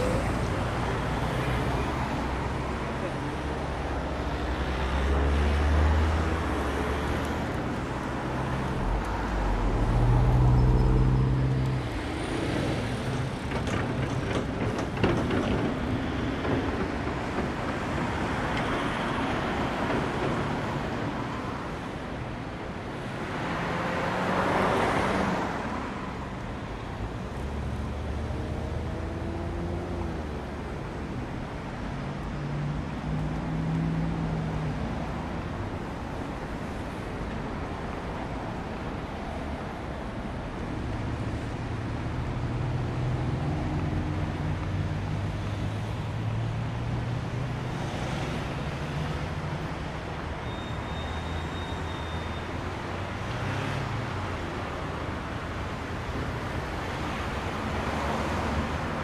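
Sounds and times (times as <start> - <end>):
traffic noise: 0.0 - 59.0.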